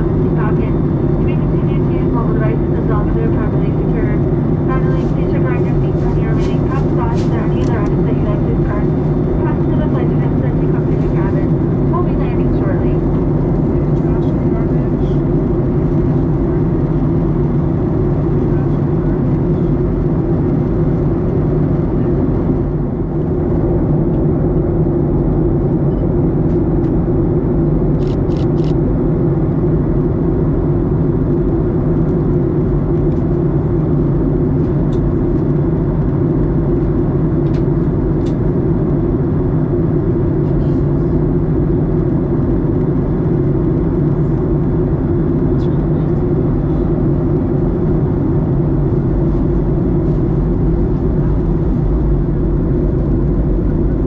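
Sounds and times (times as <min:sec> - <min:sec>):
airliner cabin drone: 0:00.0 - 0:54.0.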